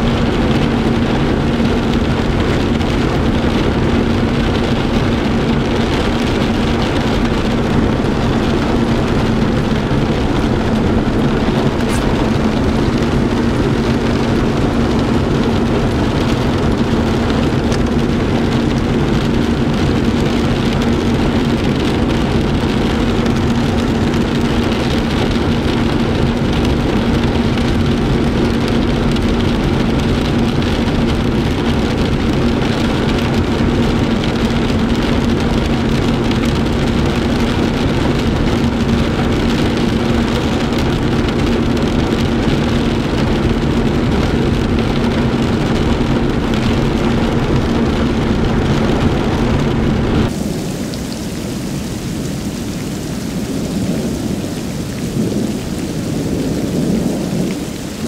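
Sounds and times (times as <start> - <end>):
engine hum: 0.0 - 58.0
heavy rain on car windshield: 0.0 - 58.0.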